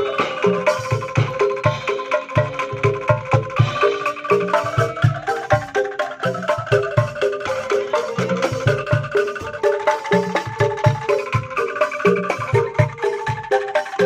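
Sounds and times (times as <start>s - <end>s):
melody of struck notes over beat: 0.0s - 14.0s.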